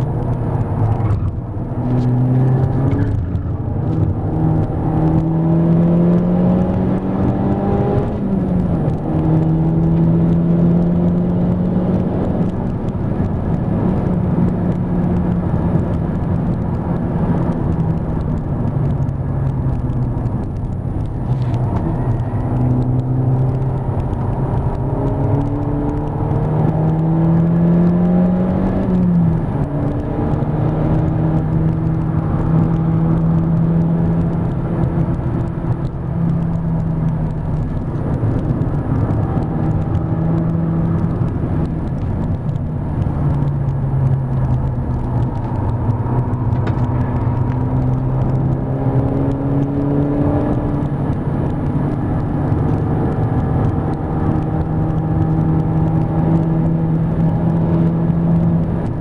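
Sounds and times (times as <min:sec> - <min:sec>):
car engine under load: 0:00.0 - 0:59.0
road and tyre noise: 0:00.0 - 0:59.0.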